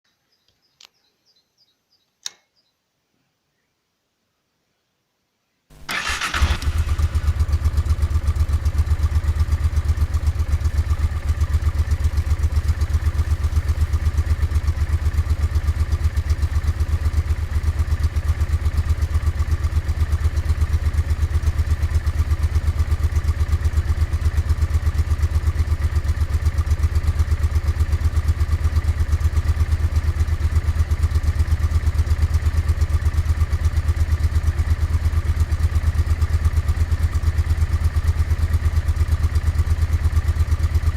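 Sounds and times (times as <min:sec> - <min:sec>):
motorcycle engine idling: 0:05.7 - 0:40.9.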